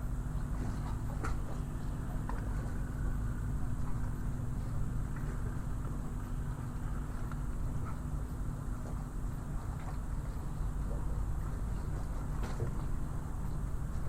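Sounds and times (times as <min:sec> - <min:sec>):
constant hum: 0:00.0 - 0:14.0
low engine rumble: 0:00.0 - 0:14.0.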